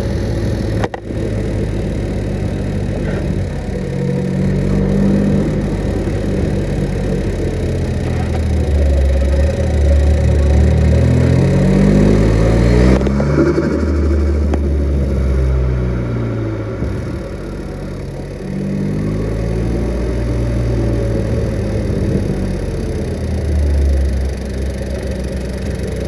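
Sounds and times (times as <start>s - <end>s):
turbocharged car engine revving: 0.0s - 26.0s.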